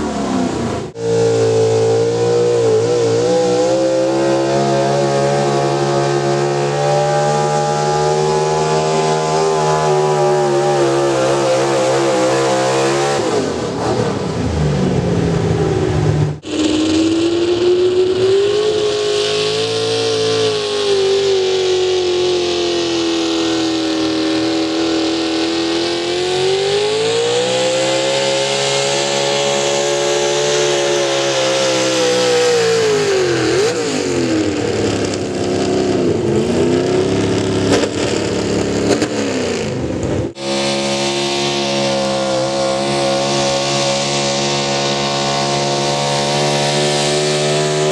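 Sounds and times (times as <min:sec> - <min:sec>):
vehicle engine running hard: 0:00.0 - 0:47.9.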